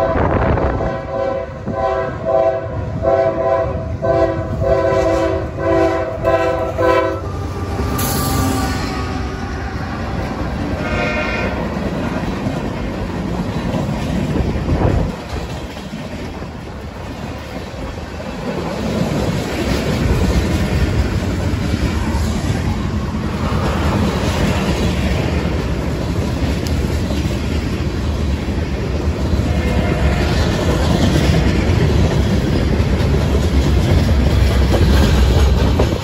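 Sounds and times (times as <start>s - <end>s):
freight train wheels rumbling on rails: 0.0s - 36.0s.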